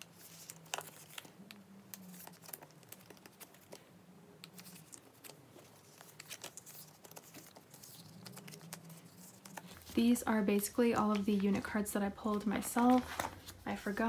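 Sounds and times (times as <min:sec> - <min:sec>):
plastic crinkling and rustling: 0:00.0 - 0:14.0.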